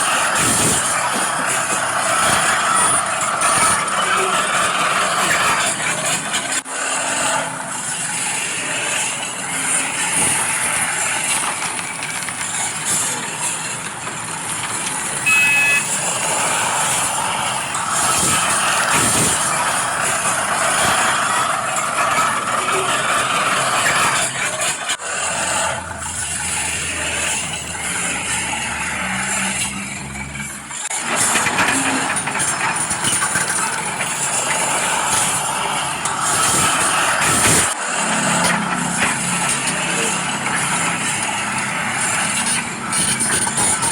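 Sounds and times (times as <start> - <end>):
construction machinery engines: 0.0 - 43.9.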